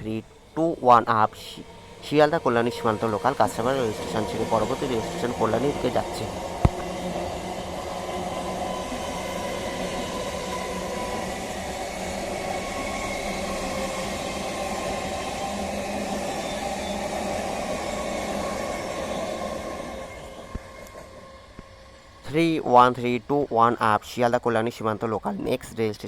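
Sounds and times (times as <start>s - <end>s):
train wheels rumbling on rails: 0.0s - 23.2s
train hum: 0.0s - 24.0s.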